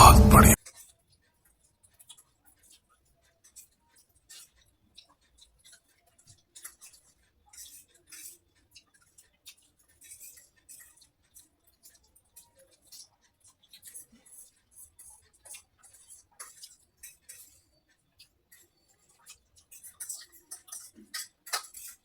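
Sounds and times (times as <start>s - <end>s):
cutlery clicking against a dish: 0.7s - 22.0s.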